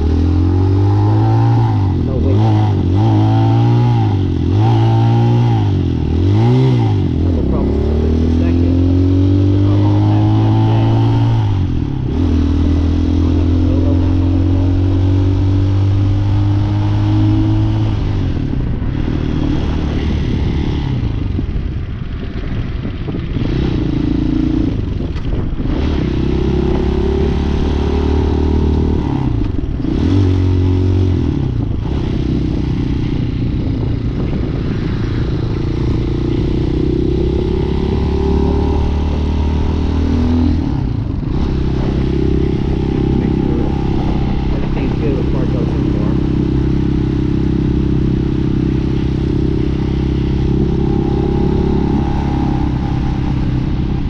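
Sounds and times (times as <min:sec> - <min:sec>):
motorcycle engine revving through gears: 0:00.0 - 0:54.0
wind rushing past microphone: 0:00.0 - 0:54.0.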